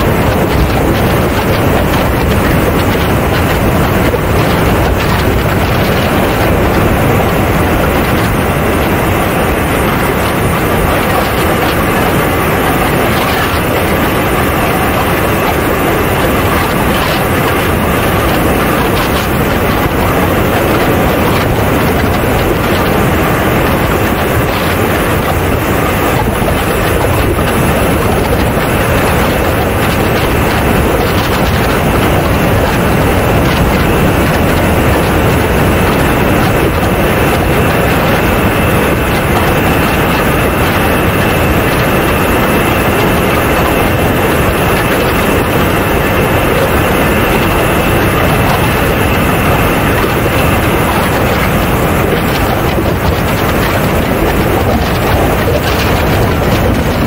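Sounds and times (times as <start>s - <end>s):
airstream rushing: 0.0s - 57.0s
high jet engine whine: 0.0s - 57.0s.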